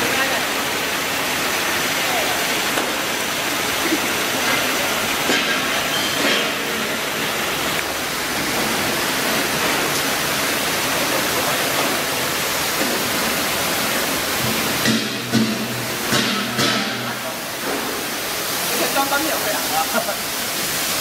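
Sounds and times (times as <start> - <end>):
washing machine hissing: 0.0 - 21.0.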